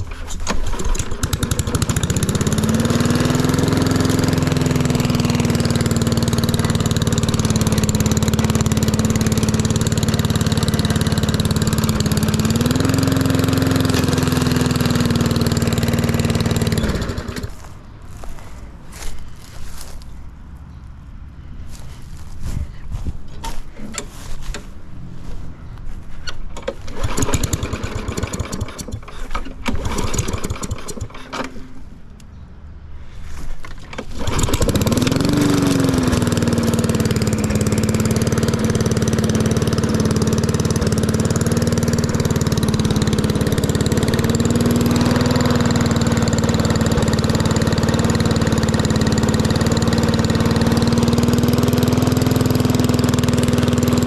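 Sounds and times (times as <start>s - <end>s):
lawn mower engine running: 0.0s - 19.9s, 21.7s - 32.4s, 33.0s - 54.0s.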